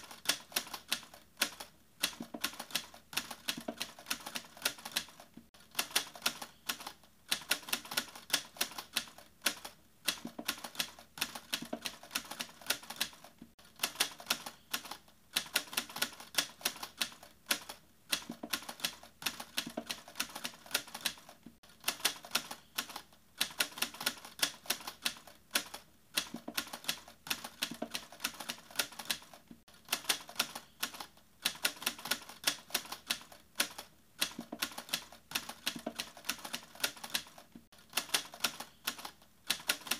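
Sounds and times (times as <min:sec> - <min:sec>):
fast typing clicks: 0:00.0 - 0:39.9.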